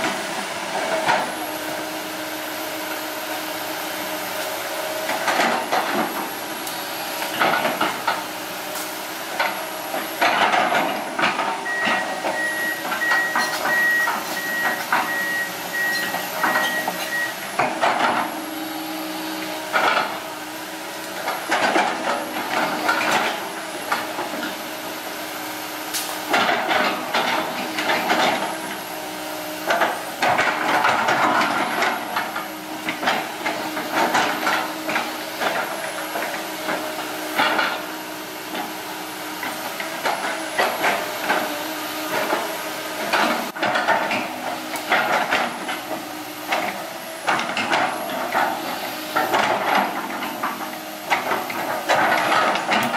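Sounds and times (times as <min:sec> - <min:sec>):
excavator engine and hydraulics whine: 0:00.0 - 0:52.9.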